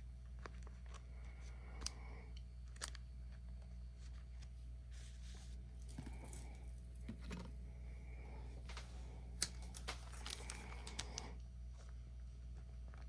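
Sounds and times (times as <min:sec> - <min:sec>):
faint rustling of wrappers: 0:00.0 - 0:07.6, 0:08.2 - 0:13.0
steady low hum: 0:00.0 - 0:13.0.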